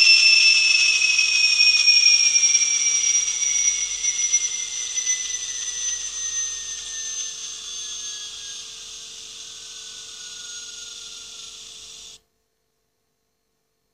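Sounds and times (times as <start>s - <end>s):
turbocharger whistle winding down: 0.0s - 12.2s.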